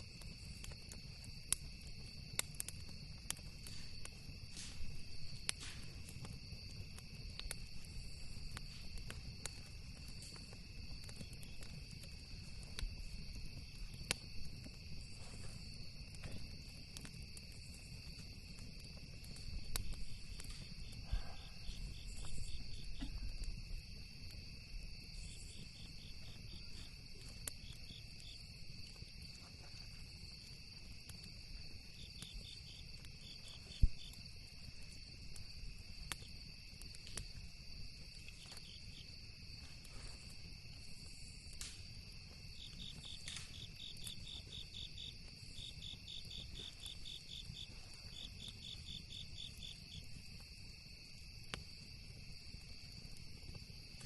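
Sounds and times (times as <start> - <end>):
campfire crackling pops: 0.0 - 54.0
insects chirping: 0.0 - 54.0.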